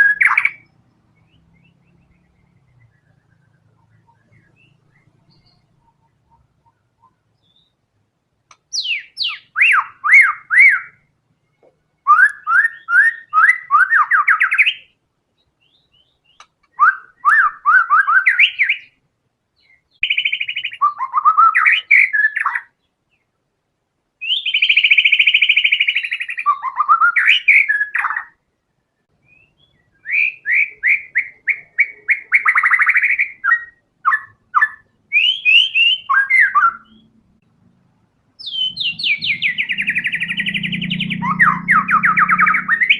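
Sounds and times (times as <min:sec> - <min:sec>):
bird singing rapid trills: 0:00.0 - 0:07.8, 0:08.5 - 0:19.0, 0:19.6 - 0:22.9, 0:24.2 - 0:28.4, 0:29.1 - 0:37.2, 0:38.4 - 0:42.9.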